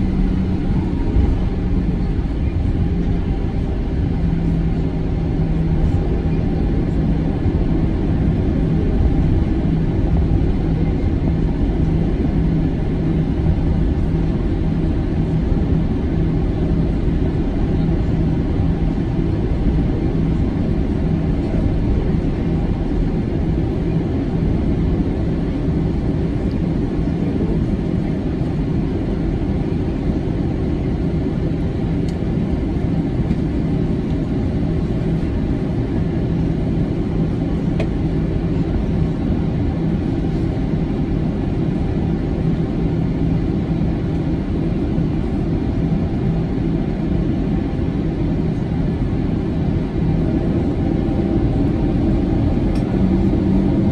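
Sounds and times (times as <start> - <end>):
aircraft cabin engine rumble: 0.0 - 53.9.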